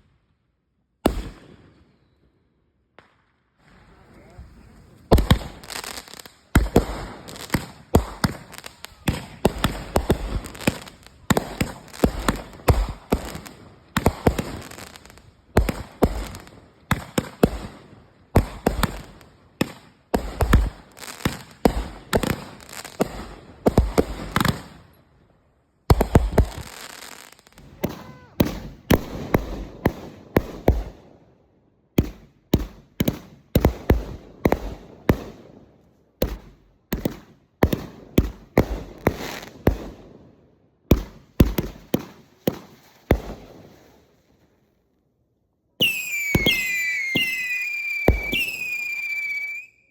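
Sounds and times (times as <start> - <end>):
fireworks bangs and crackles: 1.0 - 2.2, 2.9 - 25.0, 25.8 - 31.3, 31.9 - 44.6, 45.8 - 49.8.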